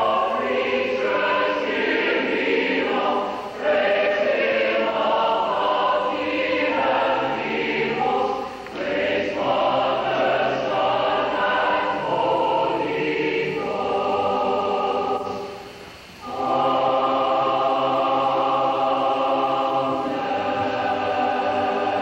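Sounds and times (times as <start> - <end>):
choir of mixed voices singing: 0.0 - 22.0.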